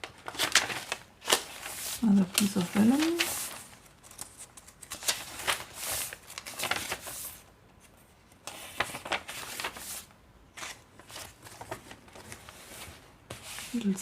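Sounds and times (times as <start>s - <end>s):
paper pages rustling and crinkling: 0.0s - 14.0s.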